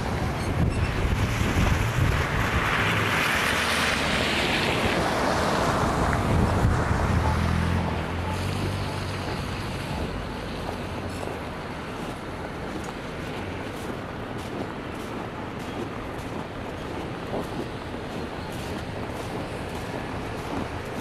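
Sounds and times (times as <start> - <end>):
vehicle engine hum: 0.0 - 21.0
wind buffeting microphone: 0.0 - 21.0.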